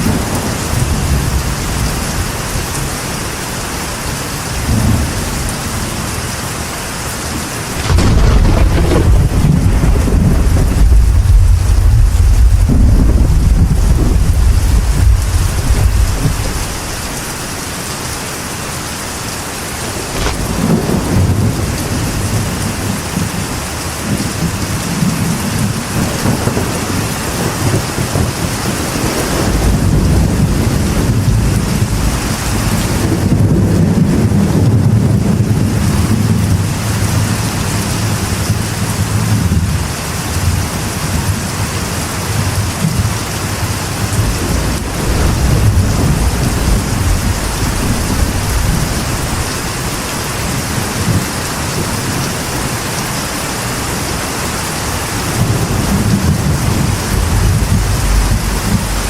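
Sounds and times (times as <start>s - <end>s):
thunder rumbling: 0.0s - 17.8s, 19.2s - 59.0s
rain on a metal roof: 0.0s - 59.0s.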